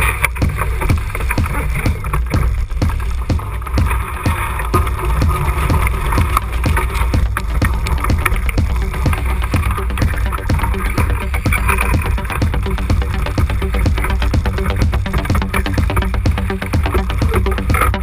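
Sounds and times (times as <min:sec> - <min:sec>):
rushing water and spray: 0:00.0 - 0:18.0.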